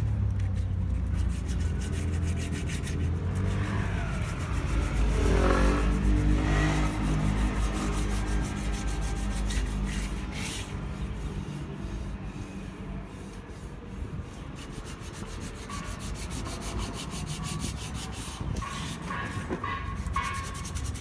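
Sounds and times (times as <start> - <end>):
sandpaper scraping metal wheel: 0.0 - 21.0.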